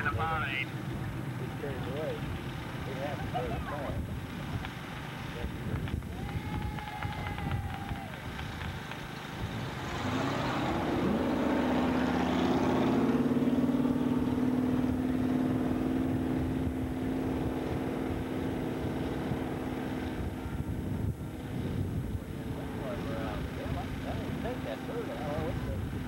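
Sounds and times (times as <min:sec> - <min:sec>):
drag racing engine at full throttle: 0:00.0 - 0:26.0.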